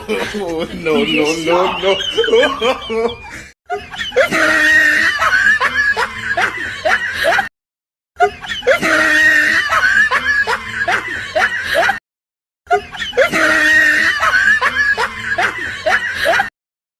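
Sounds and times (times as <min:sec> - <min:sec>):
comedy laughter sound effect: 0:00.0 - 0:07.5, 0:08.2 - 0:12.0, 0:12.7 - 0:16.5.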